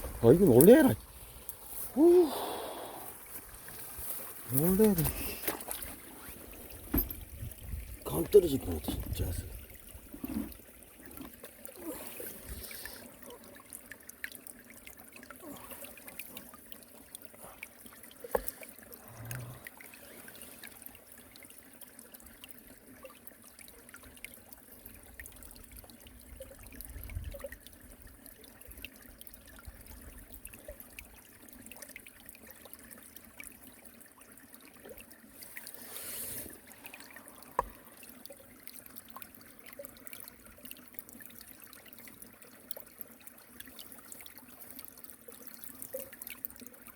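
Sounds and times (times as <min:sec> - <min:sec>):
stream water flowing over weir: 0:00.0 - 0:46.9.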